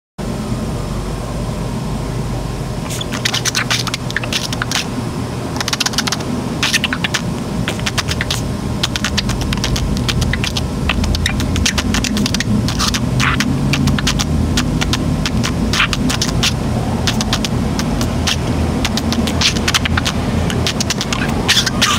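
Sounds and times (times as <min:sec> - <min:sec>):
low background rumble: 0:00.2 - 0:21.9
budgerigar clicks and chirps: 0:02.9 - 0:04.9, 0:05.6 - 0:21.9.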